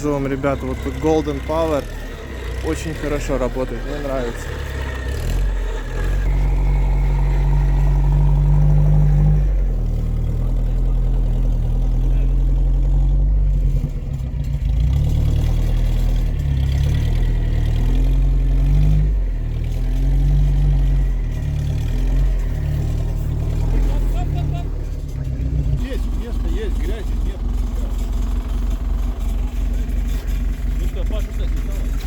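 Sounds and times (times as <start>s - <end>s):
vehicle engine running under load: 0.0s - 32.0s.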